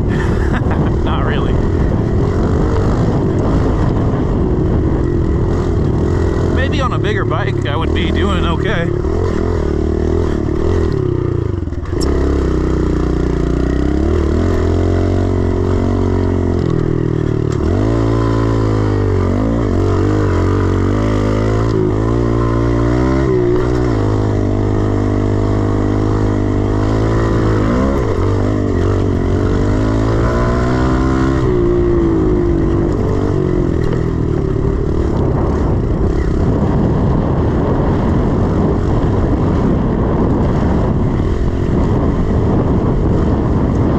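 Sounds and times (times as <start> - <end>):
motorbike engine revving: 0.0 - 43.9
rough rushing noise: 0.0 - 43.9.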